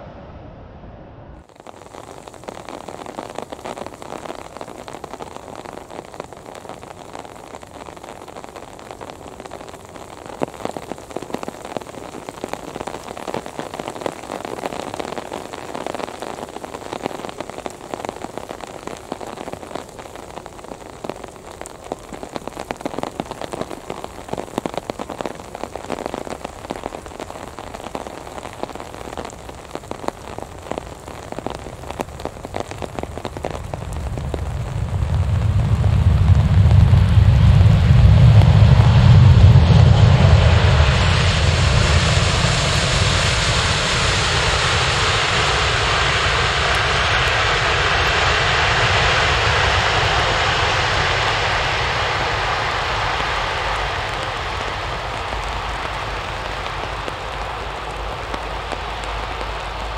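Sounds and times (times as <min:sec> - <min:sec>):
rain patter: 0:01.4 - 0:59.9.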